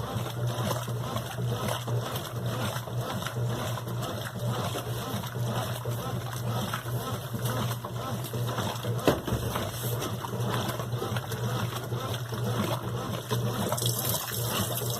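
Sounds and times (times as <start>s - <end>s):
washing machine motor hum: 0.0s - 14.9s
water sloshing in washing machine: 0.0s - 14.9s.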